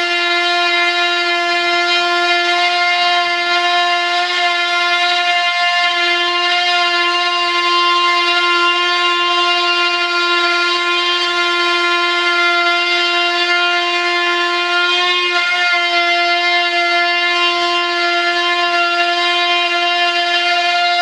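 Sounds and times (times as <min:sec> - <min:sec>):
oscillating multi-tool buzzing: 0:00.0 - 0:21.0.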